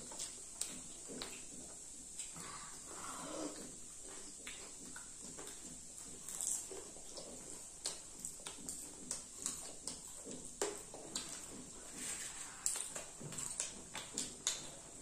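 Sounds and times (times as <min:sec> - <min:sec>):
mouth smacks and clicks: 0:00.0 - 0:02.5, 0:03.5 - 0:11.8, 0:12.6 - 0:14.9
people chewing crunchy food: 0:00.0 - 0:15.0.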